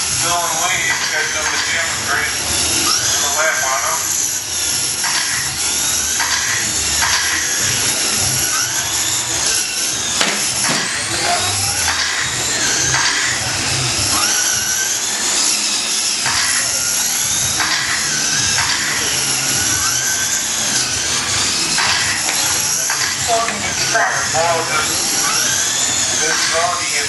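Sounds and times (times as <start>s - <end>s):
rc truck motors whining: 0.0s - 27.0s
steady background noise: 0.0s - 27.0s.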